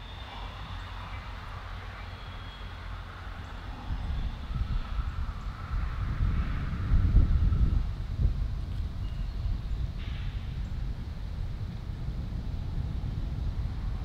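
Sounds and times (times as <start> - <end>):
diesel locomotive engine drone: 0.0 - 14.0
faint steady whine: 0.0 - 14.0.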